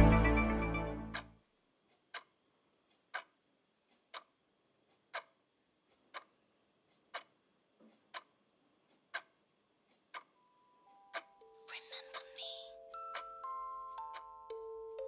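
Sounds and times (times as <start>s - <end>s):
clock ticking: 1.1s - 15.0s.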